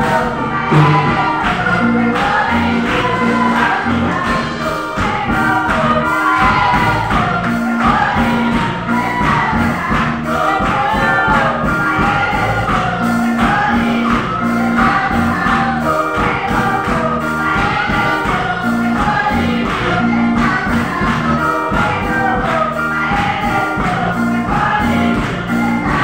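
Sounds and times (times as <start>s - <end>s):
drums and bass: 0.0s - 26.0s
group singing gospel song: 0.0s - 26.0s.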